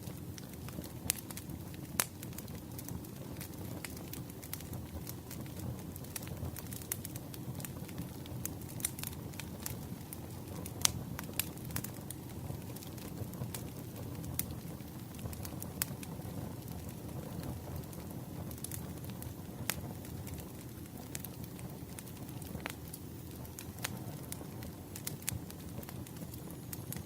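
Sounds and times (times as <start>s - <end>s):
campfire crackling and popping: 0.0s - 27.0s
low fire rumble: 0.0s - 27.0s.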